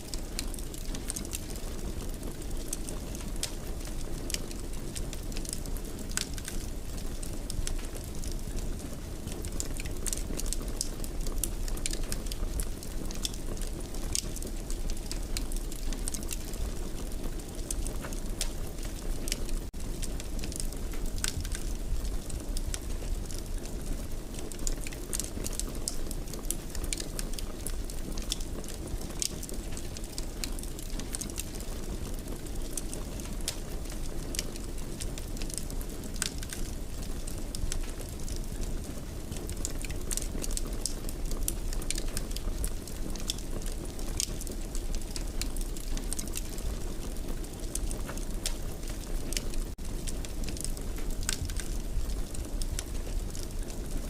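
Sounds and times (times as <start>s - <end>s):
fire crackles and pops: 0.0s - 54.0s
fire rumbling in fireplace: 0.1s - 54.0s.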